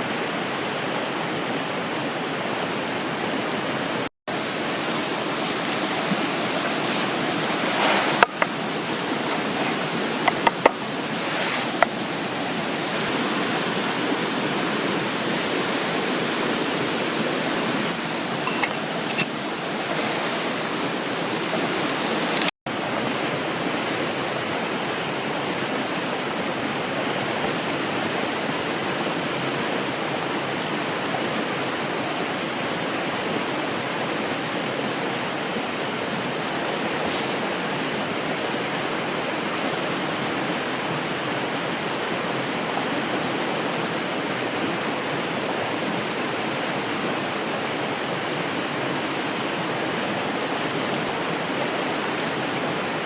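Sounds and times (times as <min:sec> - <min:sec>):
river water running: 0:00.0 - 0:53.0.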